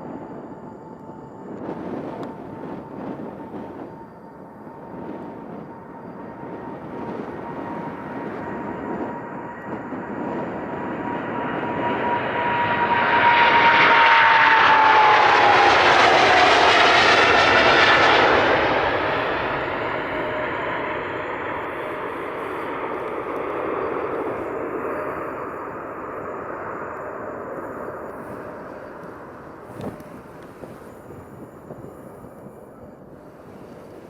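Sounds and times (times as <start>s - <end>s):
fan whine sliding down: 0.0s - 32.5s
jet engines roaring: 0.0s - 34.0s.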